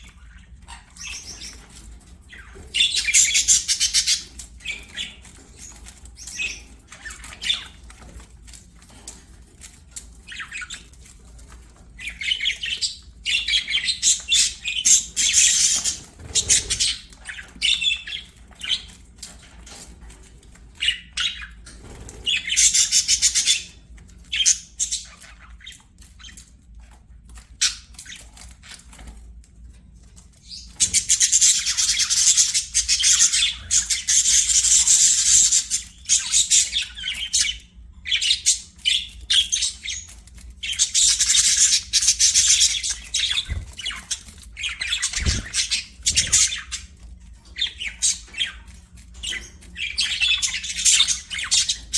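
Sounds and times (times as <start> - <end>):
budgerigars chirping and warbling: 0.0 - 51.9.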